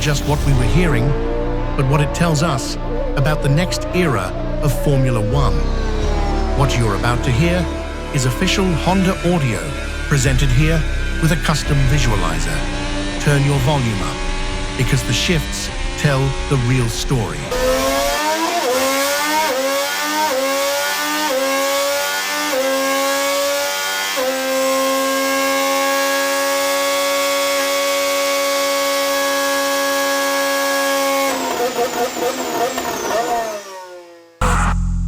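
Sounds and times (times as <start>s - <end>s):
racing car engine revving: 0.0s - 35.0s.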